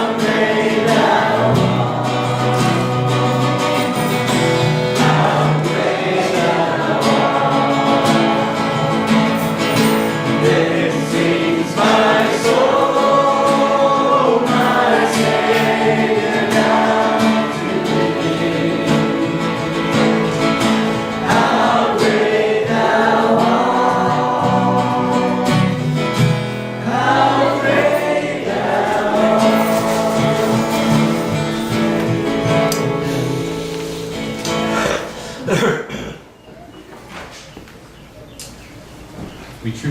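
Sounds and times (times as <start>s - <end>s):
group singing a worship song: 0.0s - 35.6s
guitar: 0.0s - 39.9s.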